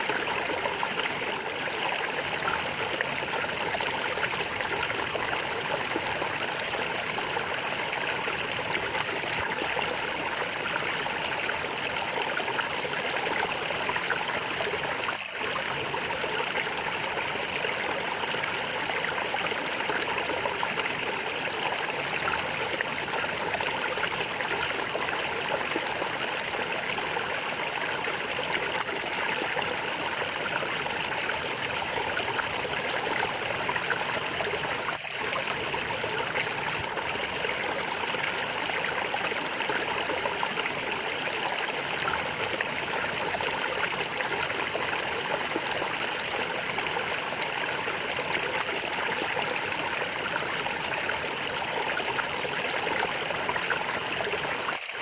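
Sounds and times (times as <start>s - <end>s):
running water gurgling: 0.0s - 55.0s.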